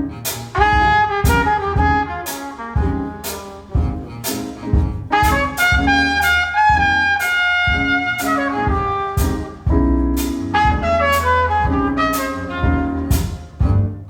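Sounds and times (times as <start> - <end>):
deep bass notes: 0.0 - 14.0
trumpet melody: 0.0 - 14.0
sharp drum hits: 0.4 - 13.9.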